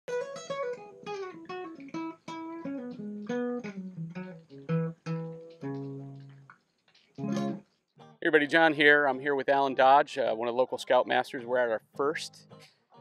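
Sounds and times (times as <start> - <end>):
plucked acoustic guitar melody: 0.1 - 13.0.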